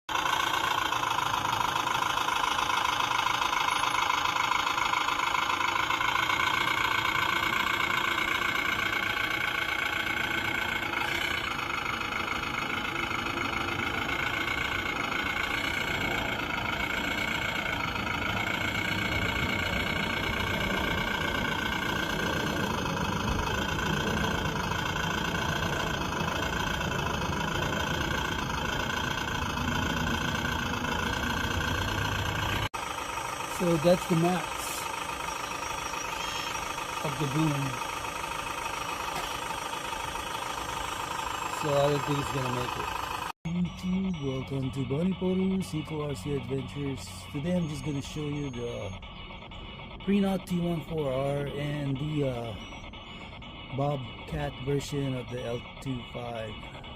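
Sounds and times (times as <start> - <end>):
engine-like running: 0.1 - 56.9
hydraulic mechanical whine: 0.1 - 56.9.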